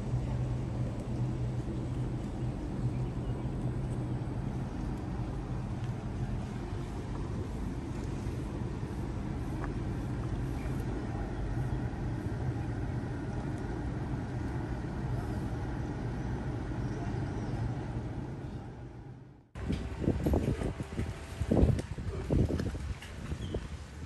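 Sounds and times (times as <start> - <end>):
low engine rumble: 0.0 - 24.0.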